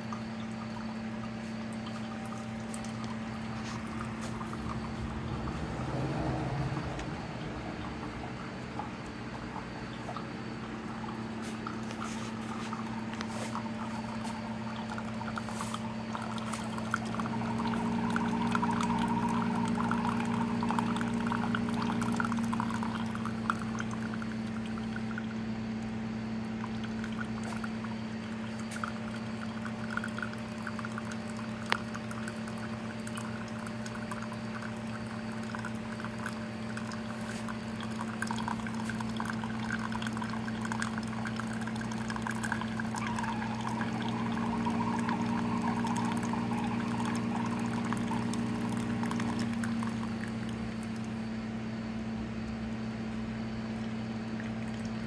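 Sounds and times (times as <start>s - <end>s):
liquid pouring into mug: 0.0s - 51.3s, 53.3s - 55.0s
coffee machine pump hum: 0.0s - 55.0s.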